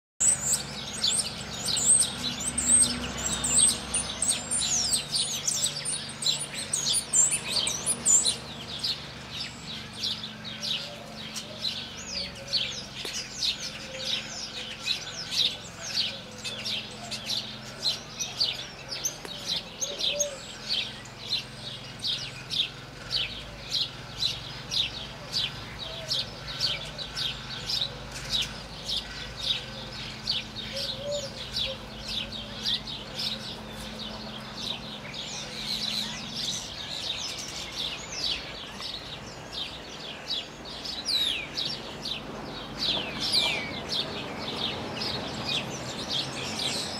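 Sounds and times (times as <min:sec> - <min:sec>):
songbird singing: 0:00.2 - 0:46.9.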